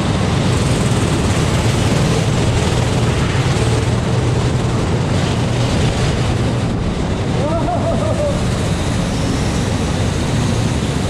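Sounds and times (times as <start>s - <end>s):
go-kart engine running: 0.0s - 11.0s
wind noise: 0.0s - 11.0s.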